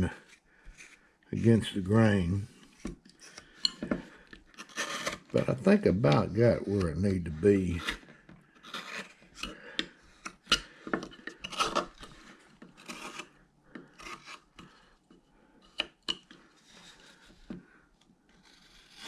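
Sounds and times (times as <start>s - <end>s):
knife carving wood: 0.0s - 1.1s, 1.7s - 19.0s.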